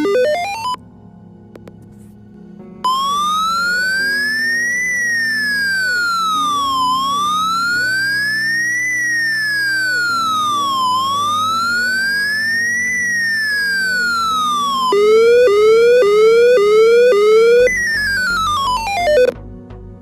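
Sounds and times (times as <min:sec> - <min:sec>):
electronic police siren tone: 0:00.0 - 0:00.8, 0:02.9 - 0:19.4.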